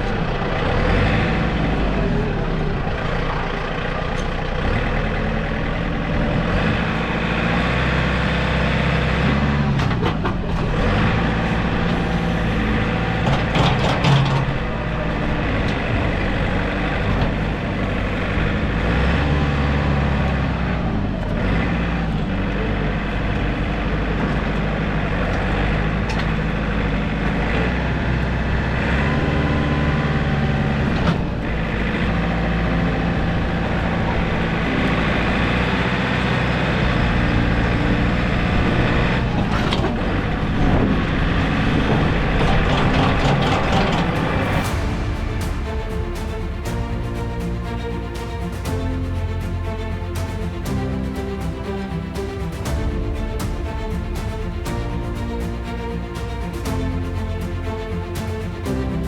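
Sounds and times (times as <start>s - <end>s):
large engine running: 0.0s - 59.0s.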